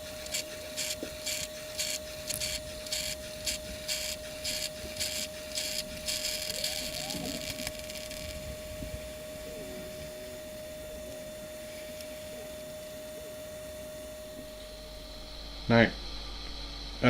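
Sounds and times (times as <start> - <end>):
coffee machine hissing spurts: 0.0 - 14.6
steady hum: 0.0 - 17.0.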